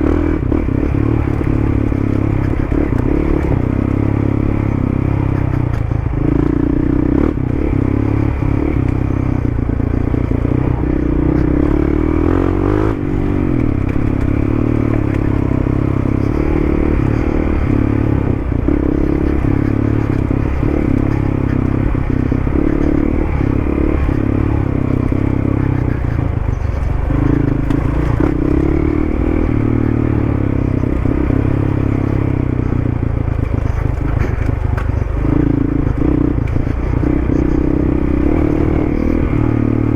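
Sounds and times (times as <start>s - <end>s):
knocks and rattles over rough ground: 0.0s - 39.9s
motorcycle engine running: 0.0s - 39.9s.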